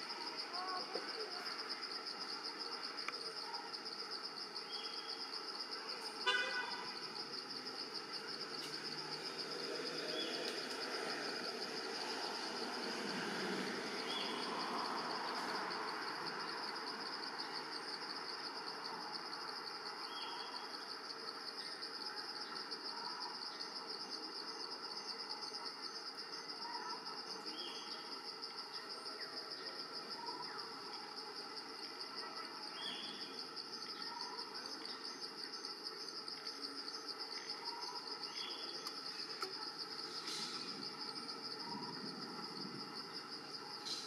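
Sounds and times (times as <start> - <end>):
insect chorus drone: 0.0 - 44.0.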